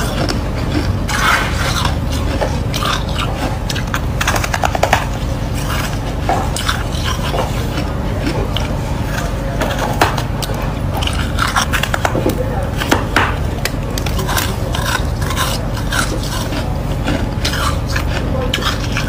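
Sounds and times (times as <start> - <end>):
frost being bitten and chewed: 0.0 - 19.0
steady low hum: 0.0 - 19.0.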